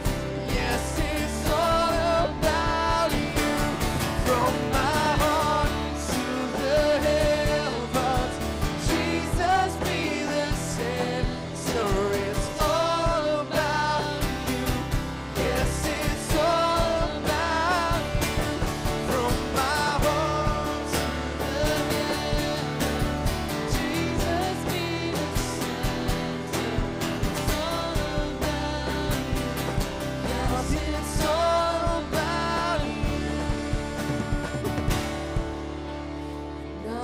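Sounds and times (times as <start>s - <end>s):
man and woman singing: 0.0s - 35.2s, 36.8s - 37.0s
acoustic guitar: 0.0s - 37.0s
electric bass: 0.0s - 37.0s.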